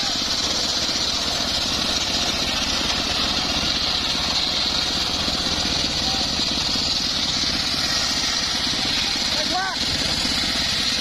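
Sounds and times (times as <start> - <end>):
saw blade whining in wood: 0.0 - 11.0
saw engine running: 0.0 - 11.0.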